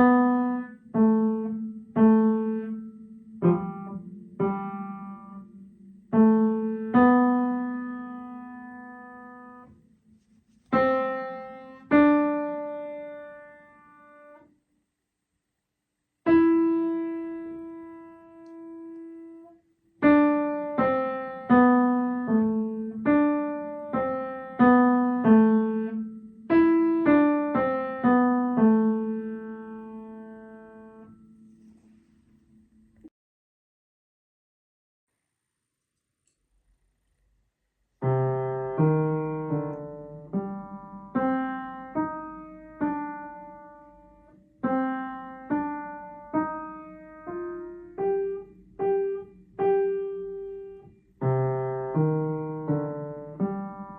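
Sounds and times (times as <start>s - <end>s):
piano notes: 0.0s - 14.5s, 16.2s - 32.1s, 38.0s - 53.9s.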